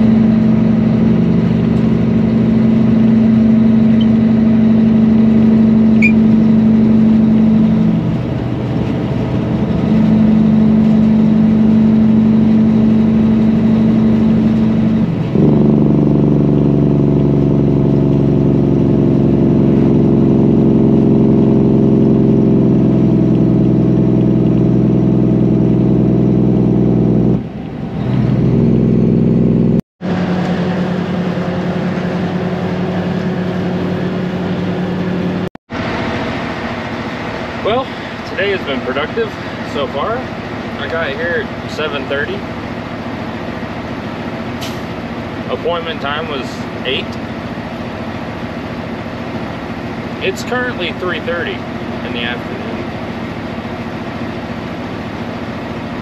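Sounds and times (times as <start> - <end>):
diesel truck engine running: 0.0 - 56.0.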